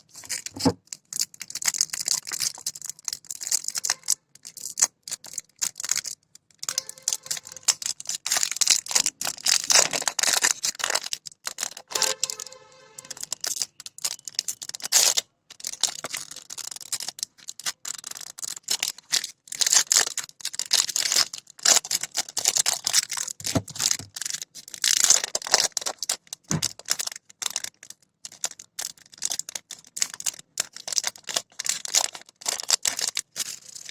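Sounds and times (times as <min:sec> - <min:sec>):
packaging crinkling and rustling: 0:00.0 - 0:33.9.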